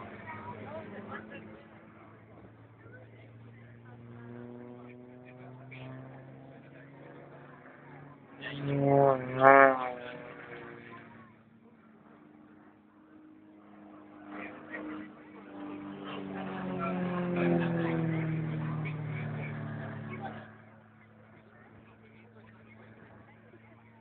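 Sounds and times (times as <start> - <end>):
motor engine droning: 0.0 - 24.0.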